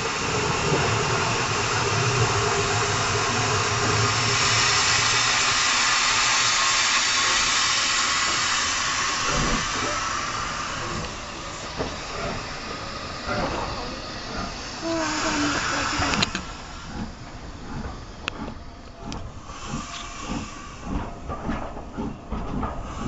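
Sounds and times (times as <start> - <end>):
locomotive low rumble: 0.0 - 23.0
steam hissing: 0.0 - 23.0.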